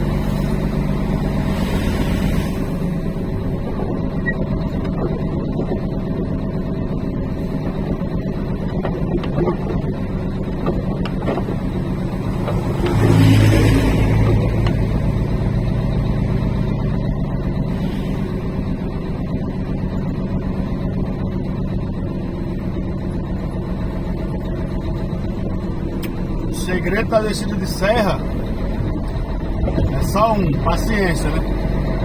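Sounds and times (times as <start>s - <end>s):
diesel truck engine running: 0.0s - 32.0s.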